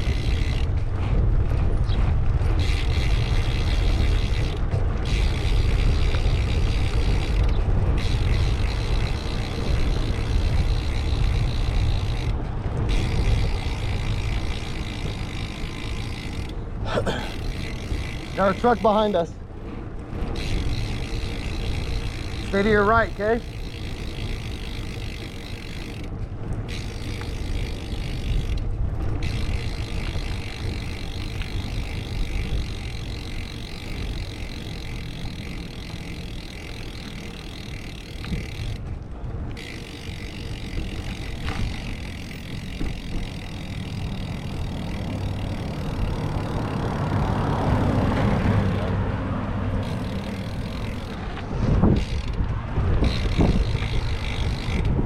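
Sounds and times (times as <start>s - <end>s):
passing motor vehicle: 0.0s - 55.0s
wind noise on microphone: 0.0s - 55.0s.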